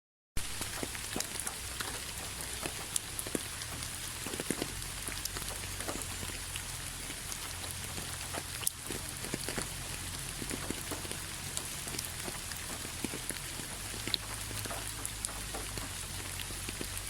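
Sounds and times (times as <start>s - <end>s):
rain pattering: 0.4s - 17.0s.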